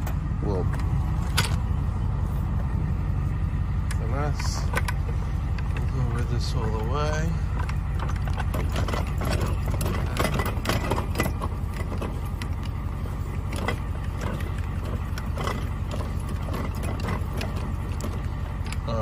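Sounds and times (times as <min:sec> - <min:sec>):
trailer jack cranking clanks: 0:00.0 - 0:02.0, 0:03.8 - 0:19.0
diesel pickup idling: 0:00.0 - 0:19.0.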